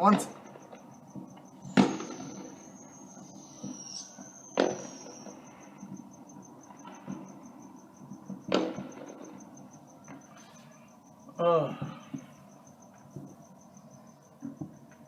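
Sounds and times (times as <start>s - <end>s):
crickets chirping: 0.0s - 15.0s
distant fireworks bangs: 0.0s - 15.0s.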